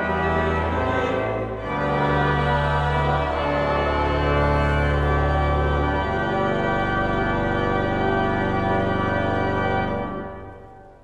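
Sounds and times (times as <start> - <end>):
pipe organ sustained chord: 0.0 - 11.0.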